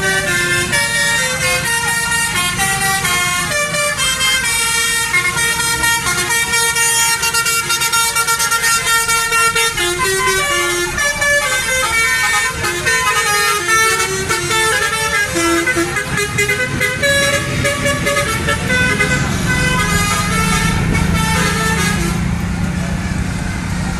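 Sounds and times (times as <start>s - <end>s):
bus horns playing tunes: 0.0s - 23.3s
bus engines running: 0.0s - 23.9s.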